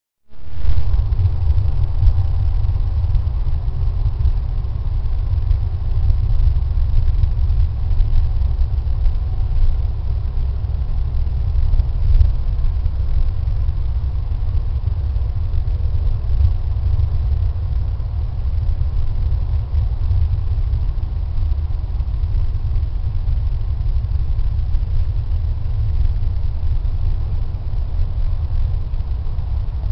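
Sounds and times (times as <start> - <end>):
steady low rumble: 0.2 - 29.9.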